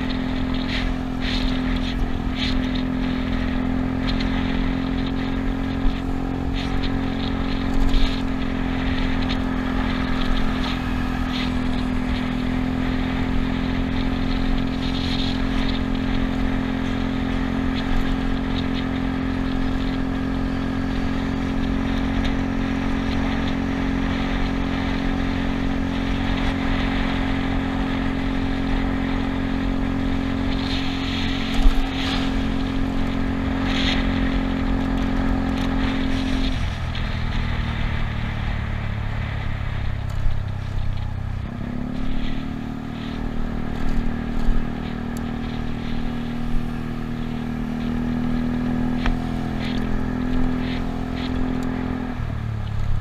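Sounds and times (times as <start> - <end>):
scooter engine droning: 0.0 - 53.0.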